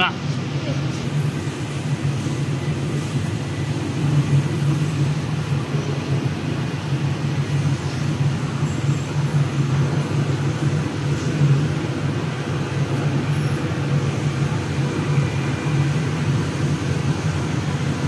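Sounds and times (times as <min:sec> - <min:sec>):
vacuum blower droning: 0:00.0 - 0:18.0.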